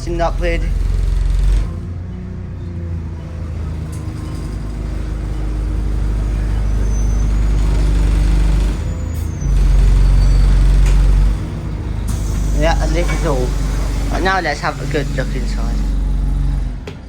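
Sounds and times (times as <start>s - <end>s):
bus diesel engine humming: 0.0s - 17.0s.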